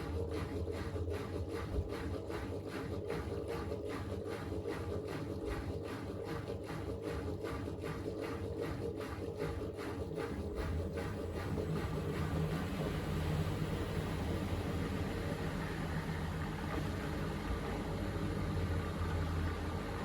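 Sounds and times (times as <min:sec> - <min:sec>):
washing machine motor hum: 0:00.0 - 0:20.0
washing machine drum swishing: 0:01.5 - 0:20.0.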